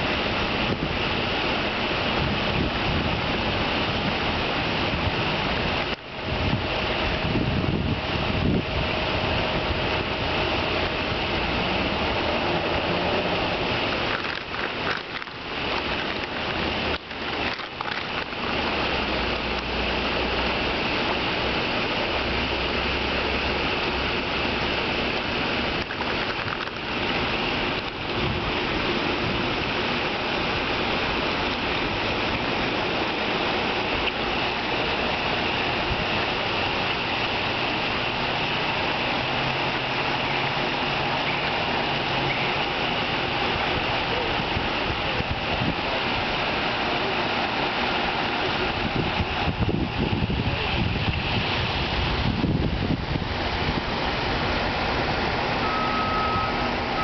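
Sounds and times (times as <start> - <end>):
water splashing and running: 0.0 - 57.0.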